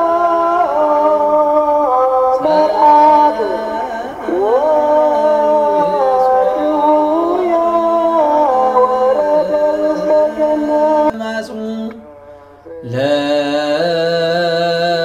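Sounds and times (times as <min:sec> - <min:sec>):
voices chanting long notes: 0:00.0 - 0:15.0.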